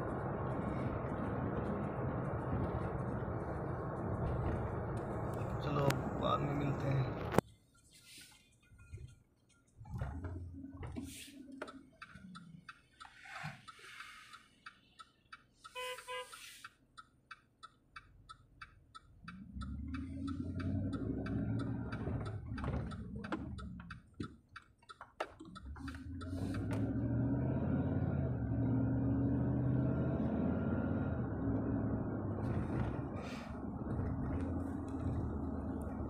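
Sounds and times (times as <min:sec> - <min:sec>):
car engine and tyre noise: 0:00.0 - 0:36.0
turn signal ticking: 0:00.0 - 0:36.0.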